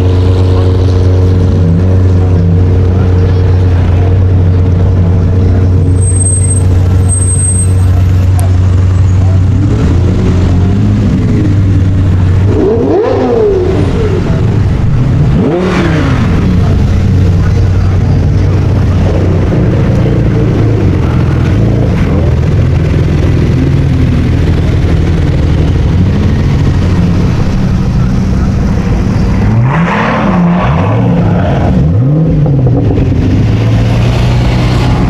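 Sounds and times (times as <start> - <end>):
car engine revving: 0.0 - 35.0
engines idling: 0.0 - 35.0.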